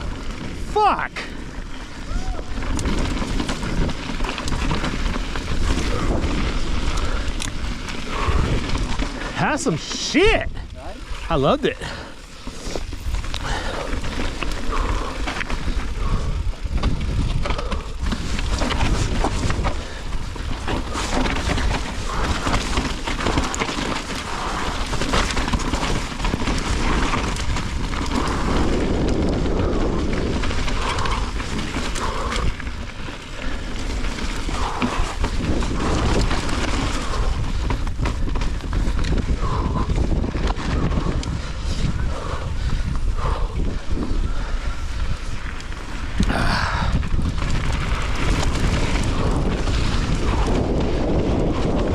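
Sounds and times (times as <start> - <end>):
bike rattling and knocking: 0.0 - 51.9
tyres on dirt: 0.0 - 51.9
wind rushing on microphone: 0.0 - 51.9.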